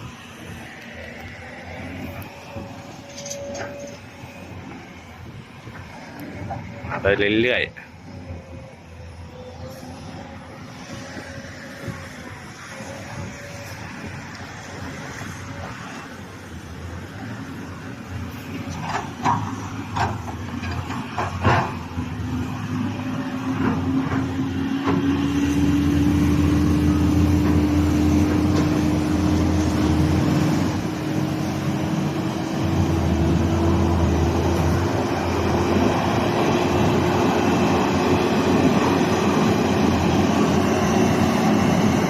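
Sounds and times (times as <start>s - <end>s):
diesel truck engine under load: 0.0s - 42.0s.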